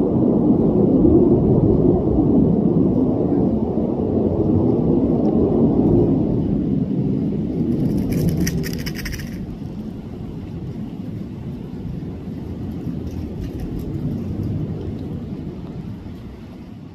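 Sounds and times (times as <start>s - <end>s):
fighter jet engines rumbling: 0.0s - 16.9s.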